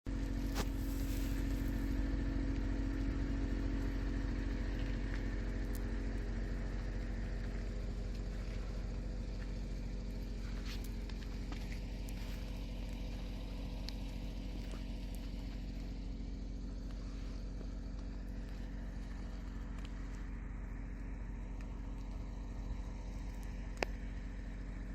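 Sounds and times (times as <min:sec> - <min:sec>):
engine idling: 0:00.1 - 0:24.9.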